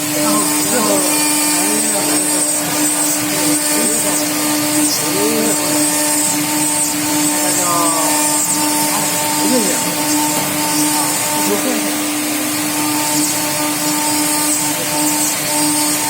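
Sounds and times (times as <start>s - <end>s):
stone cutting machine humming: 0.0s - 16.0s.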